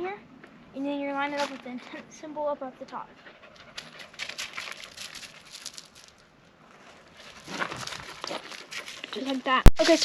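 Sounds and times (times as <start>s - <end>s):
rustling and crinkling with ticks: 1.1s - 2.1s, 2.9s - 10.0s.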